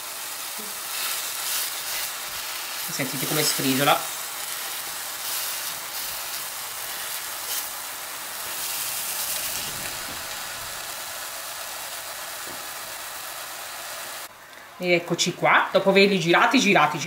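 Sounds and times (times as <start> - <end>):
burgers sizzling in pan: 0.0 - 14.3.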